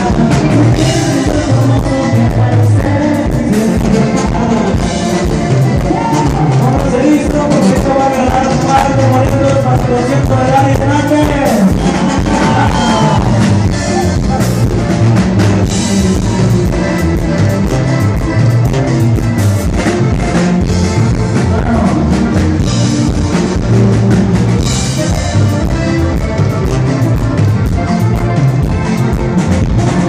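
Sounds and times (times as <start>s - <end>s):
button accordion melody: 0.0s - 30.0s
drum kit beat: 0.0s - 30.0s
sousaphone bass line: 0.0s - 30.0s.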